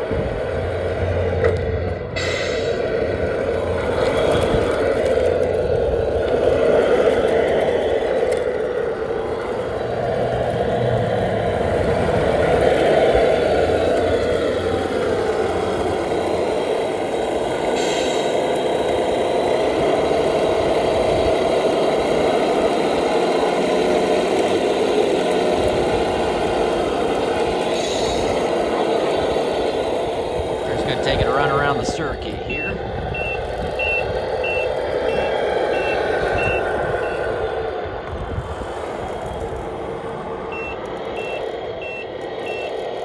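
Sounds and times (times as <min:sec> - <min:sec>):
toy truck motor humming: 0:00.0 - 0:43.0.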